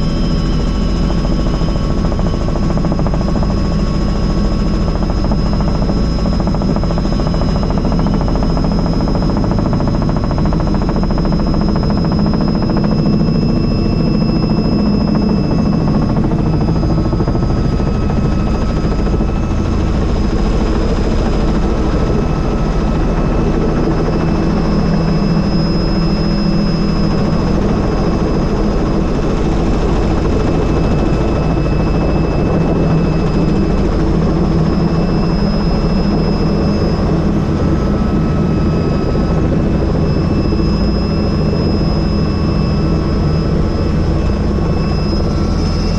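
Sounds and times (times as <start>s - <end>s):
helicopter rotor and engine noise: 0.0s - 45.9s
high whine: 0.0s - 45.9s.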